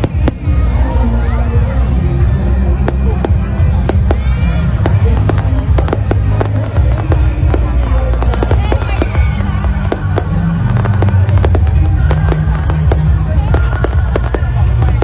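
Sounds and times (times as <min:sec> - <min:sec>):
fireworks cracking and banging: 0:00.0 - 0:15.0
loud bass-heavy music: 0:00.0 - 0:15.0.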